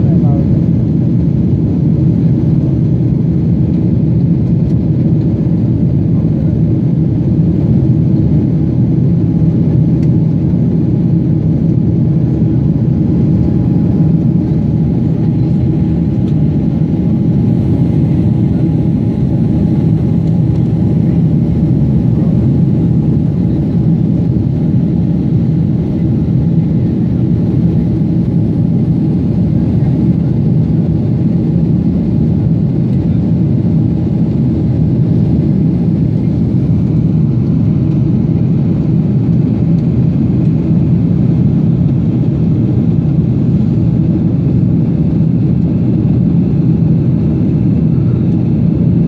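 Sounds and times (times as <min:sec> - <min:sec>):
airliner cabin engine rush: 0:00.0 - 0:49.0.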